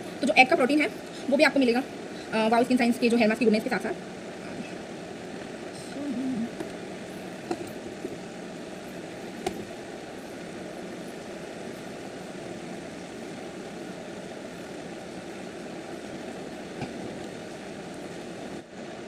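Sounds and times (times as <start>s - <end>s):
low droning background noise: 0.0s - 19.0s.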